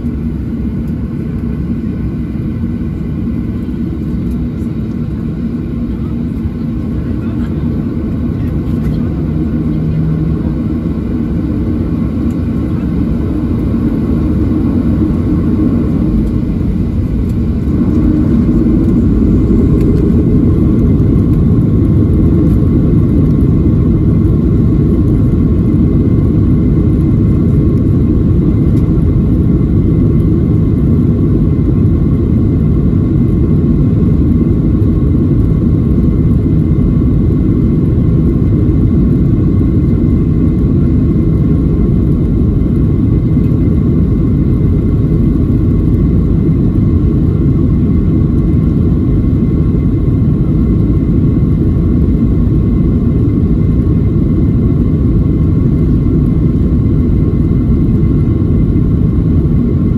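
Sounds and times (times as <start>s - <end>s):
jet engine rumble in cabin: 0.0s - 59.9s.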